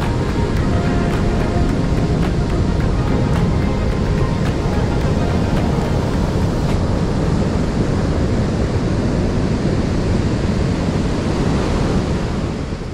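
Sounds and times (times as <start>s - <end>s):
ocean surf breaking: 0.0s - 12.9s.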